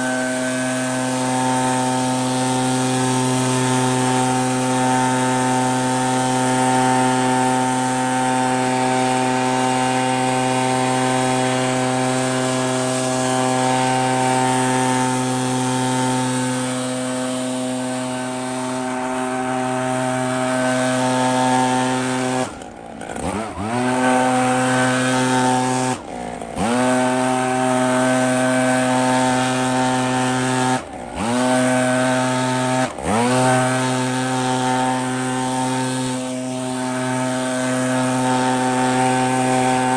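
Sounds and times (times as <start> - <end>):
leaf blower engine revving: 0.0 - 39.9.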